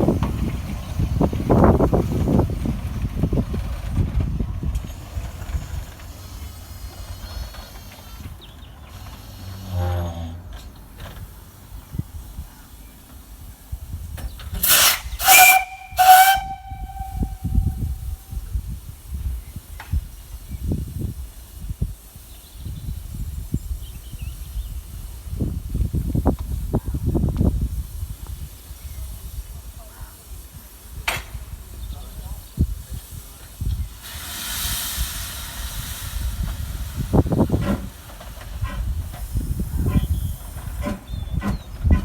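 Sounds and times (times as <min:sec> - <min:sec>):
wind buffeting microphone: 0:00.0 - 0:12.6, 0:13.2 - 0:30.4, 0:34.6 - 0:42.0
train knocking and rumbling: 0:00.0 - 0:42.0.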